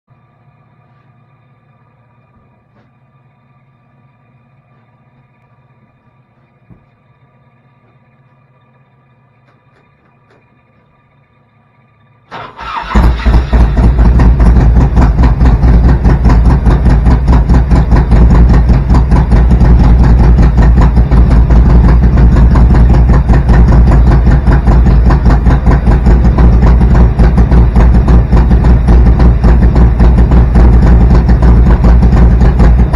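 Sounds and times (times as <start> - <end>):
motorcycle engine cranking and running: 0.2 - 32.9.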